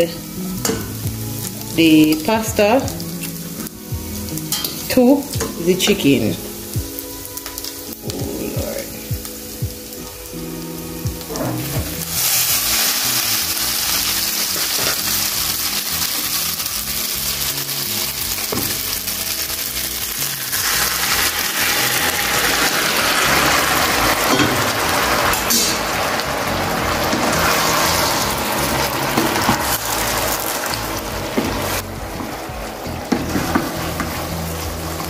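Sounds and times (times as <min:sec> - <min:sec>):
background music: 0:00.0 - 0:35.0
food sizzling in a pan: 0:00.0 - 0:35.0.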